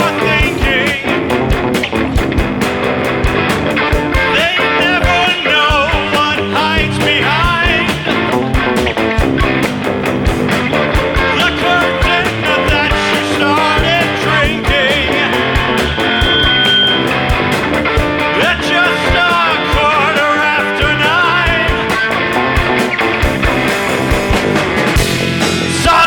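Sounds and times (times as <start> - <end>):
drums steady beat: 0.0 - 26.0
electric guitar lead line: 0.0 - 26.0
rock band playing: 0.0 - 26.0.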